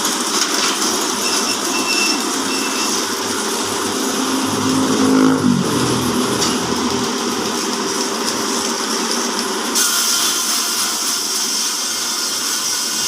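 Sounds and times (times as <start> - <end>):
band sawmill running: 0.0 - 13.0.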